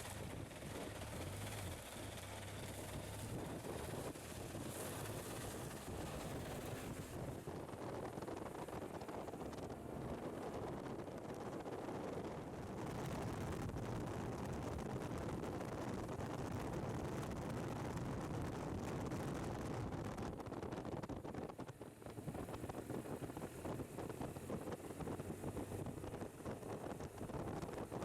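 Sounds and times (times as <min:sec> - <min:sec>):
motorcycle engine running: 0:00.0 - 0:28.0
wind rushing over microphone: 0:02.7 - 0:28.0.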